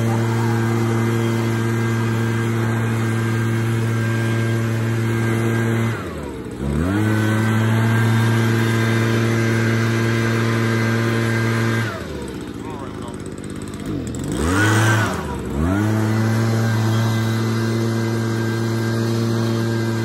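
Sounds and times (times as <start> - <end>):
leaf blower running: 0.0 - 20.0.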